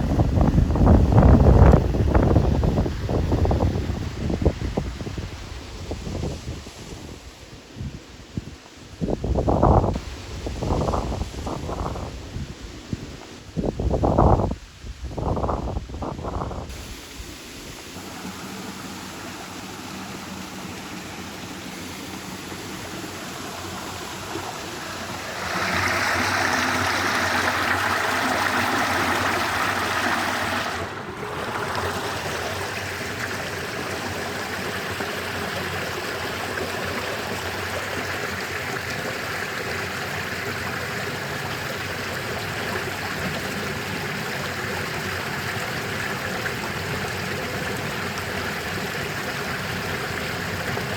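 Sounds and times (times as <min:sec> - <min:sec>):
stream water over stones: 0:00.0 - 0:50.9.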